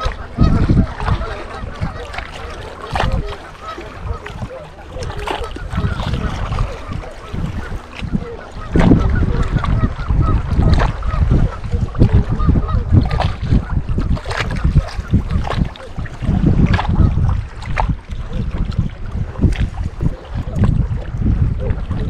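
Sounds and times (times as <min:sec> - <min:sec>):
water lapping: 0:00.0 - 0:22.0
wind gusting on microphone: 0:00.0 - 0:22.0.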